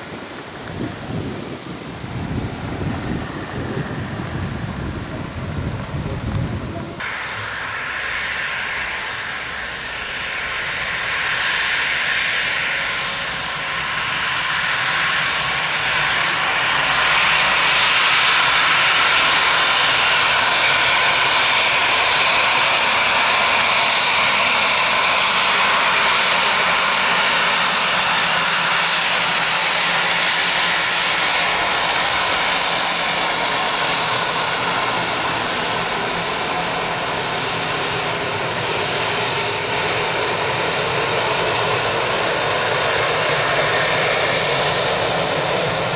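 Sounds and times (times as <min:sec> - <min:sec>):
jet engine whine: 0:00.0 - 0:45.9.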